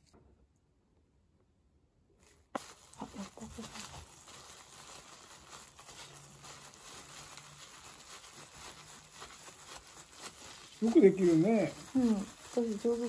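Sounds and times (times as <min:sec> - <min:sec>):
plastic gloves crinkling: 0:02.2 - 0:13.0.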